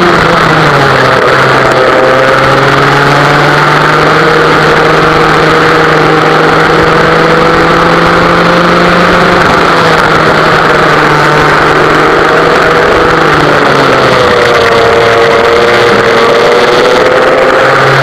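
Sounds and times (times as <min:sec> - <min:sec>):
two-stroke kart engine running: 0:00.0 - 0:18.0.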